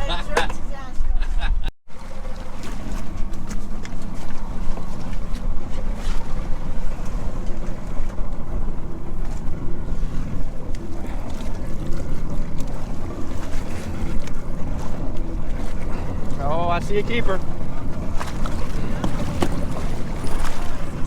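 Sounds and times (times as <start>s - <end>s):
water splashing against hull: 1.9s - 21.0s.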